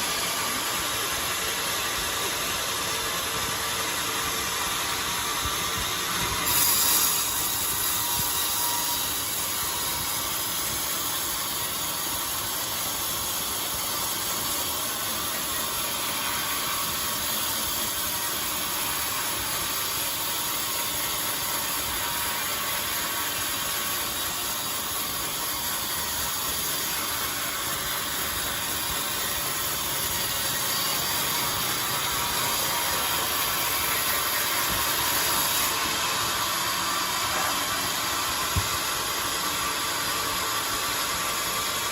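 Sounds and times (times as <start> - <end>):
band saw running: 0.0 - 41.9.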